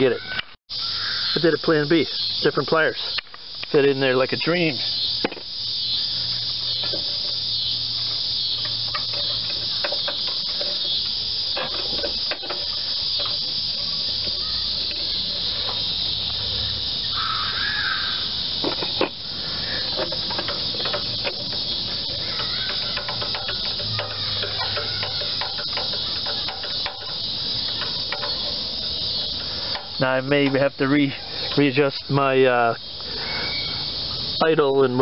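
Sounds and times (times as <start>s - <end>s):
insects chorus: 0.0s - 35.0s.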